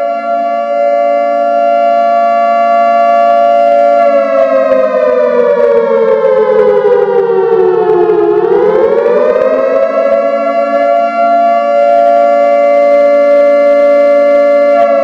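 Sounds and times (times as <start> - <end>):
bass-boosted siren wailing: 0.0 - 15.0.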